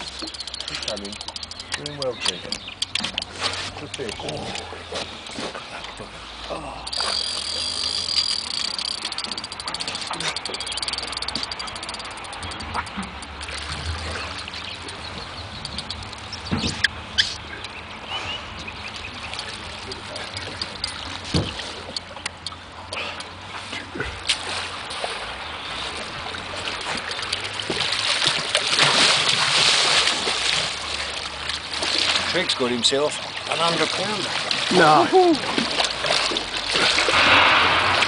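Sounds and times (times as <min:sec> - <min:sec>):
water splashing against boat: 0:00.0 - 0:38.0.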